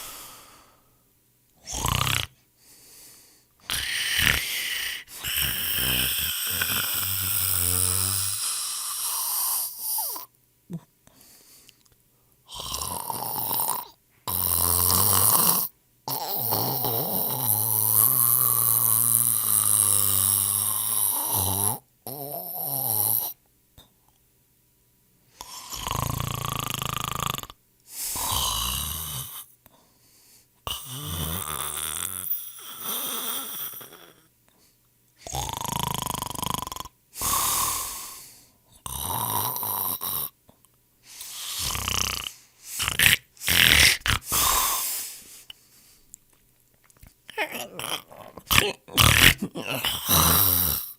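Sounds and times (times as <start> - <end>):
person snoring: 0.0 - 0.8, 1.6 - 2.4, 3.6 - 10.9, 12.5 - 23.4, 25.4 - 29.5, 30.7 - 34.3, 35.2 - 40.4, 41.1 - 45.6, 47.3 - 50.9.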